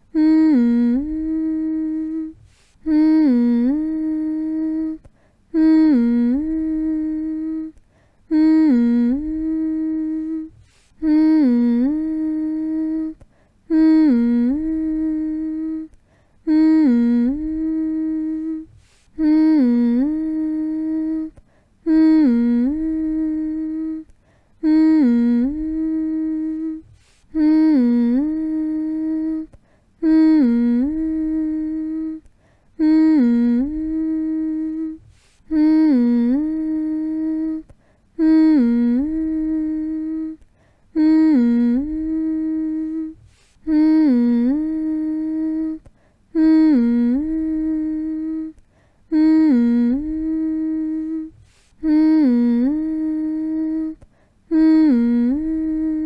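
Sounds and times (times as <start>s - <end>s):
person humming a lullaby: 0.0s - 56.0s.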